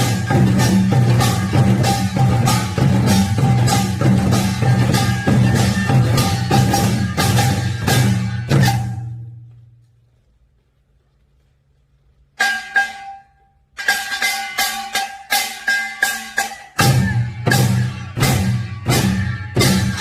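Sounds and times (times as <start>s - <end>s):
percussion with metallic strikes: 0.0s - 9.8s, 12.1s - 20.0s.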